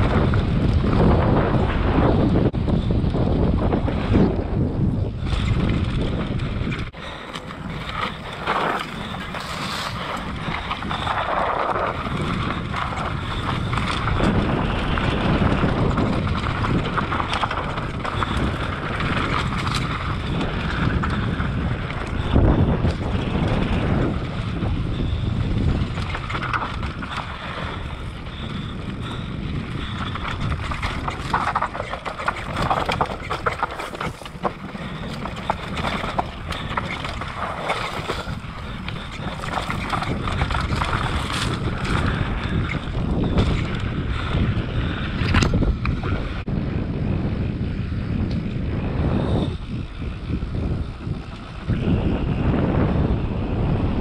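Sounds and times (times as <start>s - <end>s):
bike knocks and rattles: 0.0s - 46.4s
tyres on loose dirt: 0.0s - 54.0s
wind rushing over microphone: 0.0s - 54.0s.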